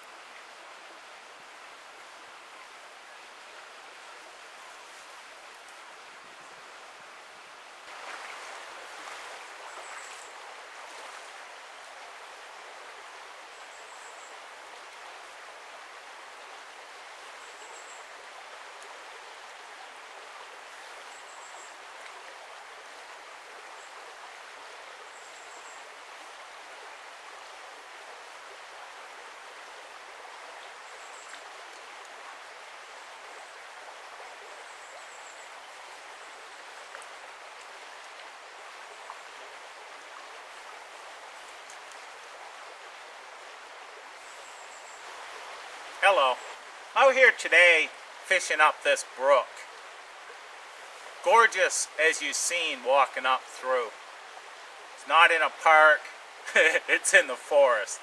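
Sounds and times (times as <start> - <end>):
brook rushing over shallows: 0.0 - 58.0.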